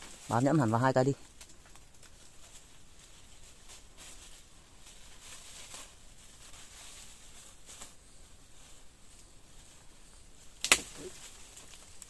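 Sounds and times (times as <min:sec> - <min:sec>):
faint high hiss: 0:00.0 - 0:12.0
rustling and scraping of brush: 0:00.0 - 0:12.0
soft crackles: 0:00.0 - 0:12.0.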